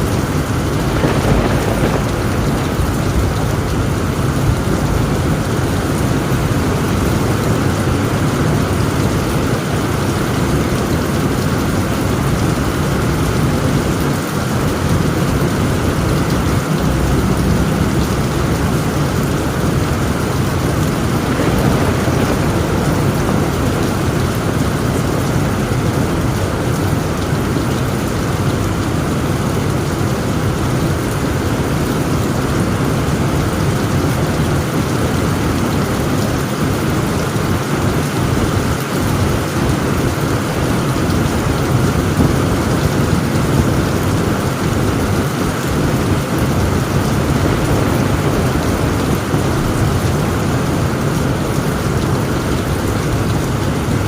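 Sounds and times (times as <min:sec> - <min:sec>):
heavy rain on tent roof: 0:00.0 - 0:54.0
rumble of thunder: 0:00.0 - 0:54.0.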